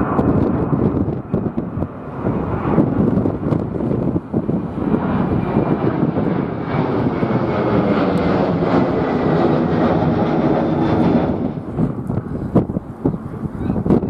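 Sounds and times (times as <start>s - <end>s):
jet airliner engines passing: 0.0s - 14.0s
wind buffeting microphone: 0.0s - 14.0s.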